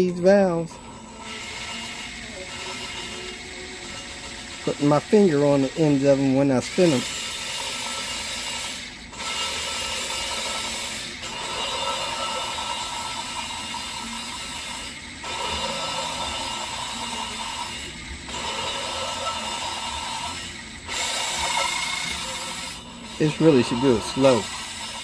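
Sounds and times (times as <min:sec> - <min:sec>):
gritty valve grinding: 0:00.0 - 0:25.0.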